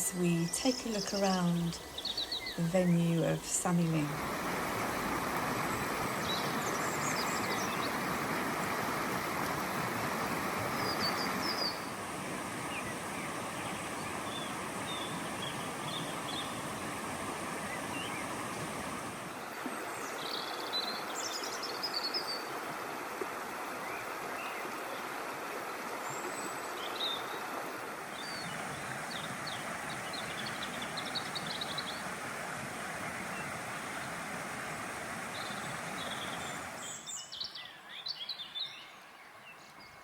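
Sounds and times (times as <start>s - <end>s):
small birds chirping: 0.0s - 12.0s, 12.6s - 22.5s, 28.1s - 40.0s
river flowing: 0.0s - 40.0s.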